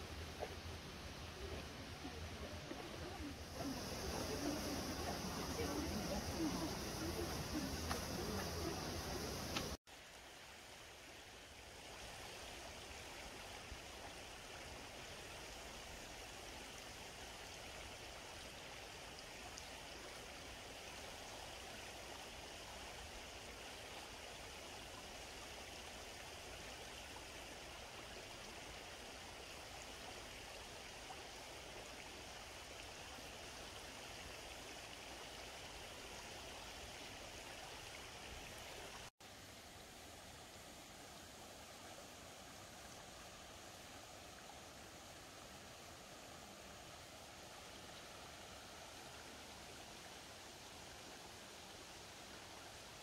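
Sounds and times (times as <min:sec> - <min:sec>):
flowing stream water: 0:00.0 - 0:53.0.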